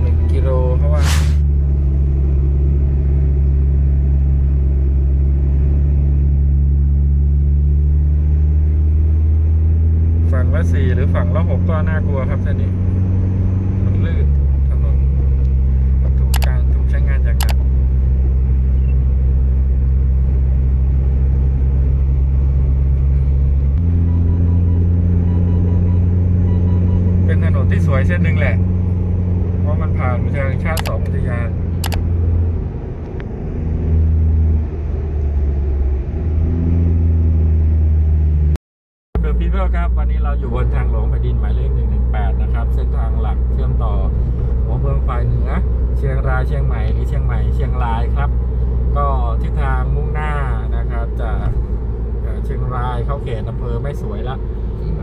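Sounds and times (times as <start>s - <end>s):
car engine and tyre rumble: 0.0s - 38.6s, 39.2s - 55.0s.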